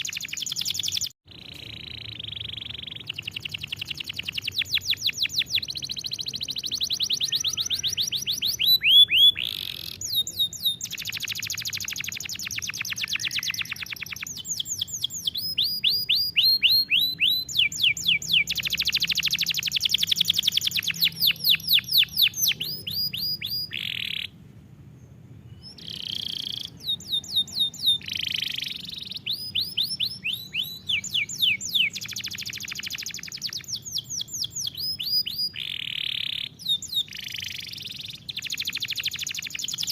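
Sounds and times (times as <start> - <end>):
canary singing rapid trills: 0.0 - 24.4, 25.5 - 39.9.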